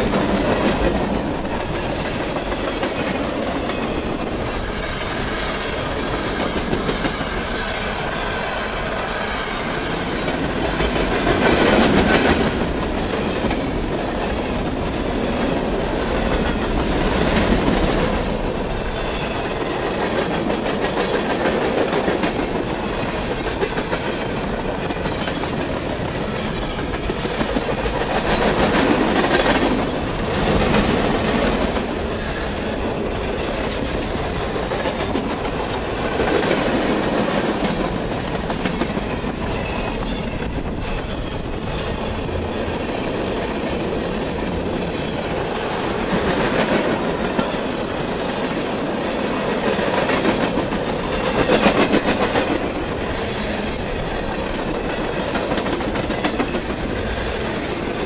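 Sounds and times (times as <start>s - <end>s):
freight train rumble: 0.0s - 58.0s
wheels clacking over rail joints: 9.8s - 58.0s.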